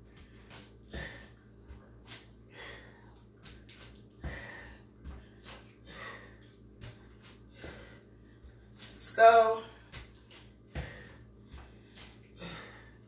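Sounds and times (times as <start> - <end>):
person breathing hard: 0.2 - 8.9, 10.7 - 13.0.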